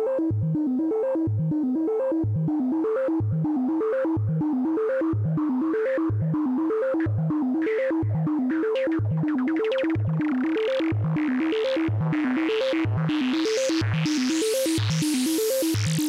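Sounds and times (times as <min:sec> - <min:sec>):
synthesizer stepped sequence: 0:00.0 - 0:16.0.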